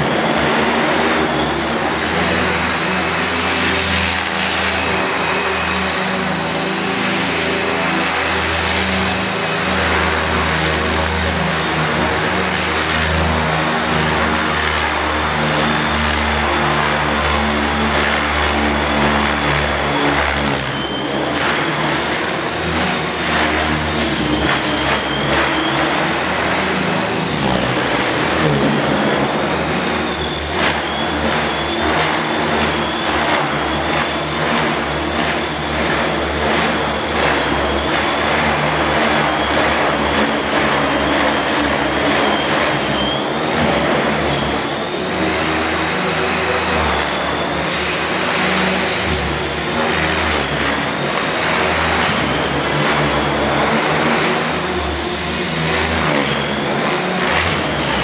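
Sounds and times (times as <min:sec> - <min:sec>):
model helicopter motor whine: 0:00.0 - 0:58.0
spinning rotor hum: 0:00.0 - 0:58.0.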